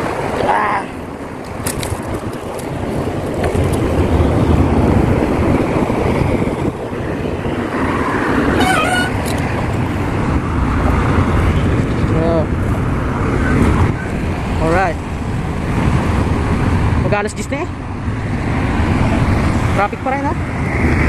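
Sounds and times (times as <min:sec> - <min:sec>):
car traffic: 0:00.0 - 0:21.0
wind rumbling on microphone: 0:00.0 - 0:21.0.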